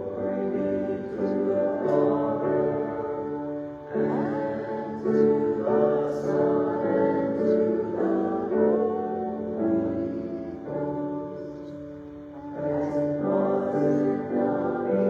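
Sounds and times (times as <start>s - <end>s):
voices singing a hymn: 0.0s - 15.0s.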